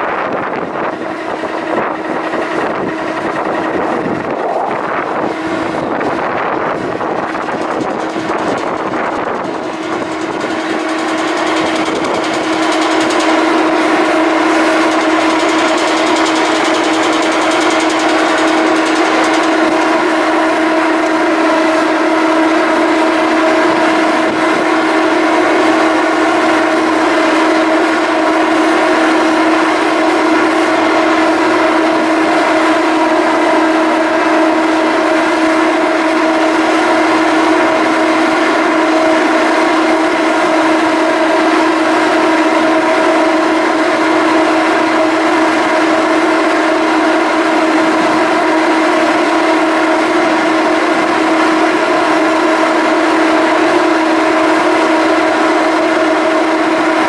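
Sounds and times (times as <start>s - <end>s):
ferry engines droning: 0.0s - 57.0s.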